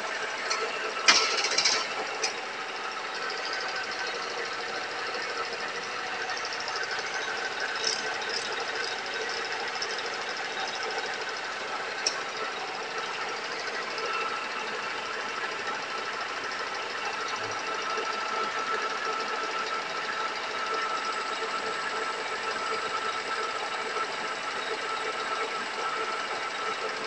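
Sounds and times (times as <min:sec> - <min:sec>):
lathe running with high whine: 0:00.0 - 0:27.0.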